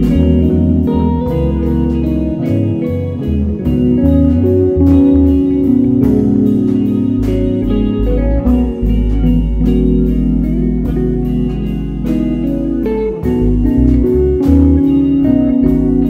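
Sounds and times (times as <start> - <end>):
deep bass notes: 0.0 - 16.0
guitar line: 0.0 - 16.0
ticking beat: 0.0 - 16.0.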